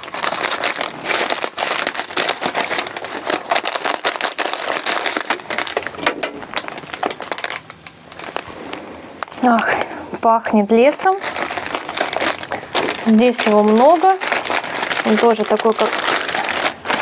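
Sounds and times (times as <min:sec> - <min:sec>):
plastic packet crinkling: 0:00.0 - 0:10.0, 0:10.6 - 0:17.0.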